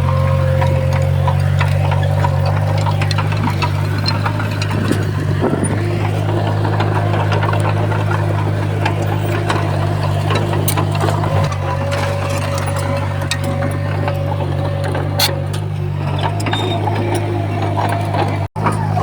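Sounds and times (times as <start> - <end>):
bulldozer diesel engine: 0.0 - 19.0
sharp clicks and clanks: 0.0 - 19.0.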